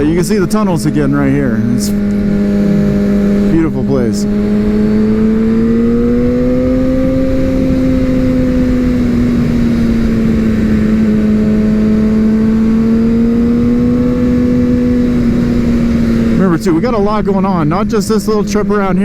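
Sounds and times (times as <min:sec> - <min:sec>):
motorcycle engine running: 0:00.0 - 0:19.0
steady noisy rush: 0:00.0 - 0:19.0.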